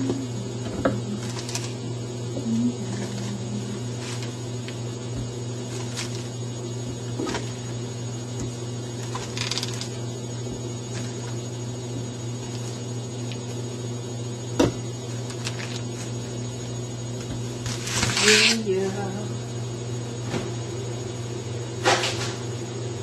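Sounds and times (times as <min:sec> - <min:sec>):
low electric hum: 0:00.0 - 0:23.0.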